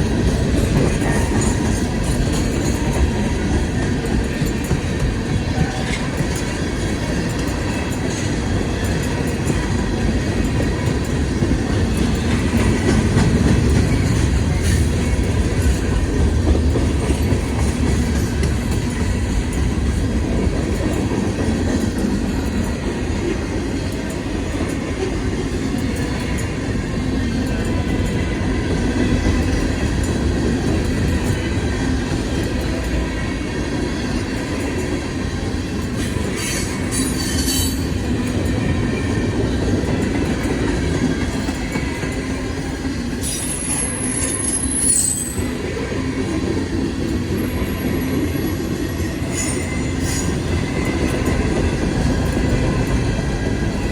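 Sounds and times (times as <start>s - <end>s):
train wheels rolling on rail: 0.0s - 53.9s.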